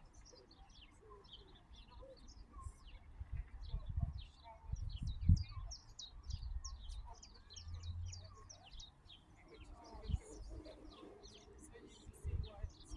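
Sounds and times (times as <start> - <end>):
small songbirds chirping: 0.0 - 12.9.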